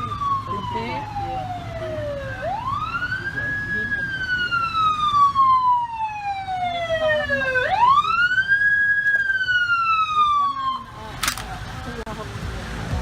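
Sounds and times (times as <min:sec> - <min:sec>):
emergency vehicle siren wailing: 0:00.0 - 0:11.2
low traffic rumble: 0:00.0 - 0:13.0.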